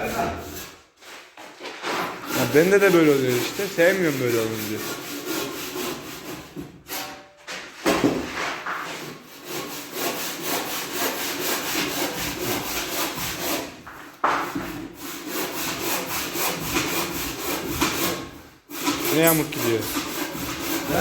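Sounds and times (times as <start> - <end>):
hand saw cutting: 1.8 - 7.2, 8.8 - 21.0.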